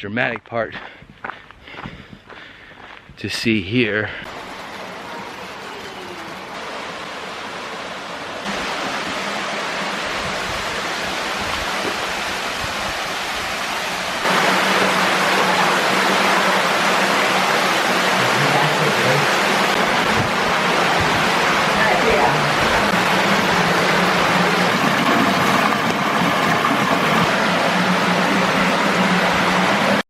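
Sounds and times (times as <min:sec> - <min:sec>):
waterfall rushing: 0:04.2 - 0:30.0.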